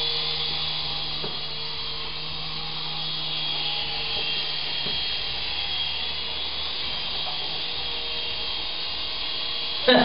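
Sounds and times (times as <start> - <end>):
toy helicopter rotors whirring: 0.0 - 10.0.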